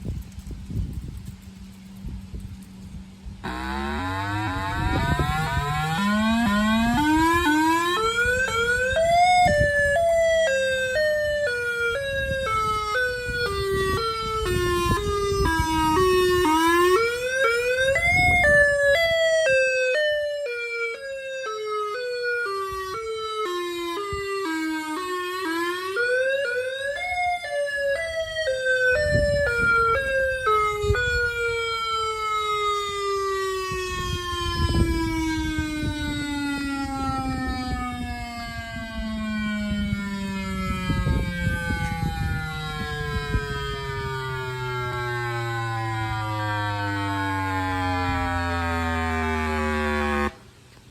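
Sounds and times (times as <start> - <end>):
electronic siren wailing: 3.4 - 50.5.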